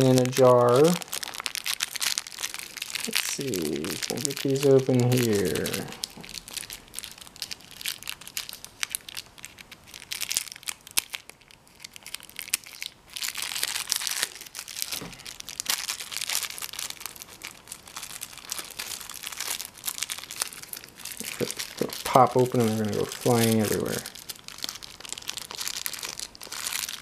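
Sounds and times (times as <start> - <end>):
plastic bag crinkling: 0.0 - 27.0.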